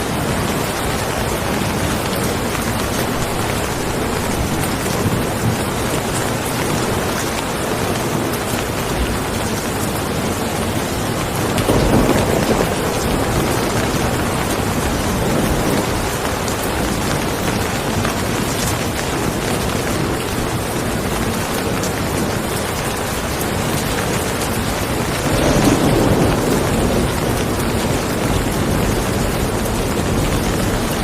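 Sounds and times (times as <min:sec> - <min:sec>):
steady rain falling: 0:00.0 - 0:31.0
low rumble of thunder: 0:00.1 - 0:18.5, 0:23.0 - 0:31.0.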